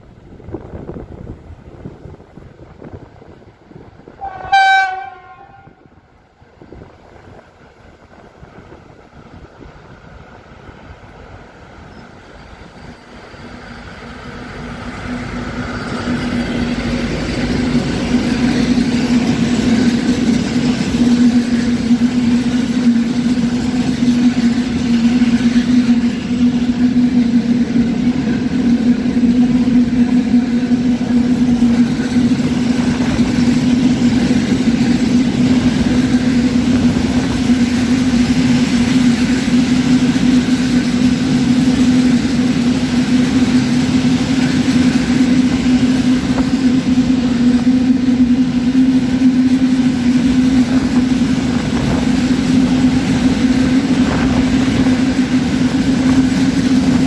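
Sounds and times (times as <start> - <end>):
diesel locomotive passing: 0.0 - 57.0
freight wagons rolling on rails: 11.3 - 57.0.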